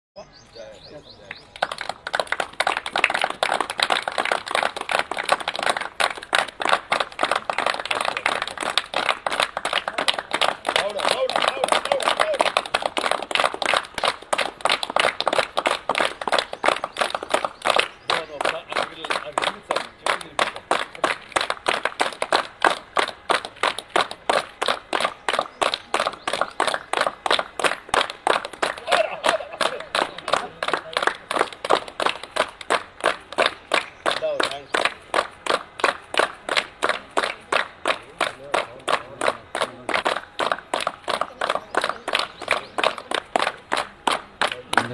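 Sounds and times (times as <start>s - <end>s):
group of people clapping: 1.1s - 44.9s.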